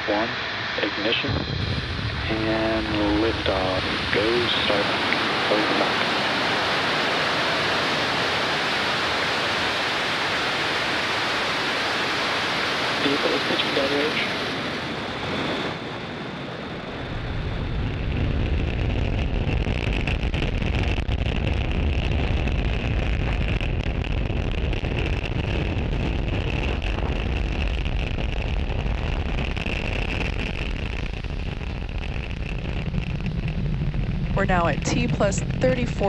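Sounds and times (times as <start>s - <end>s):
rocket engines rumbling: 0.0s - 36.0s.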